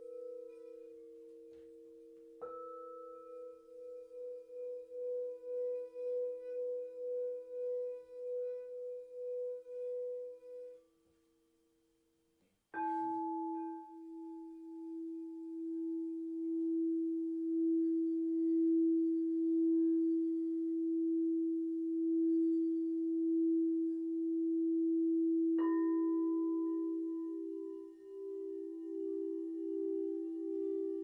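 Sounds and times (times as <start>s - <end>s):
singing bowl pulsing tone: 0.0s - 10.8s, 12.8s - 31.0s.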